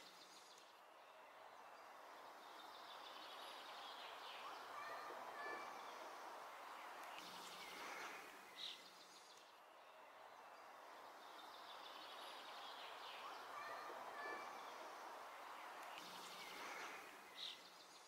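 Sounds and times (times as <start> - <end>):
distant small birds chirping: 0.0 - 18.0.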